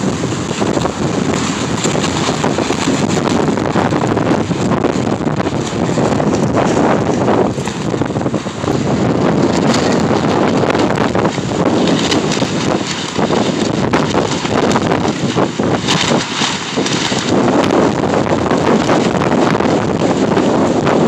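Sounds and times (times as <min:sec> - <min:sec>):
plastic sheeting flapping: 0:00.0 - 0:21.0
wind buffeting microphone: 0:00.0 - 0:21.0.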